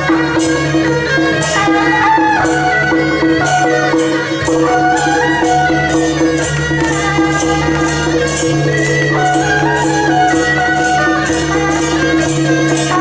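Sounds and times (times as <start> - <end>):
percussion strikes: 0.0 - 13.0.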